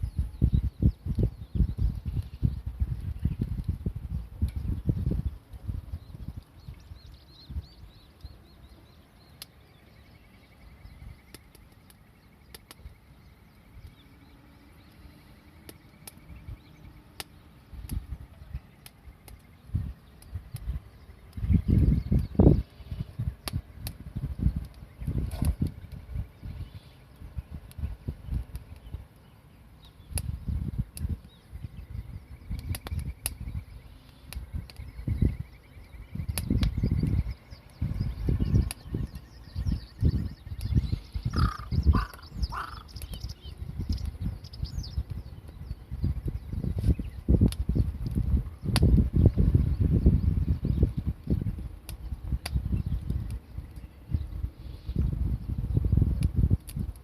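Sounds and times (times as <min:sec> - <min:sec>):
faint bird chirping: 0:00.0 - 0:56.1
campfire crackling and popping: 0:00.0 - 0:57.0
wind buffeting microphone: 0:00.0 - 0:57.0.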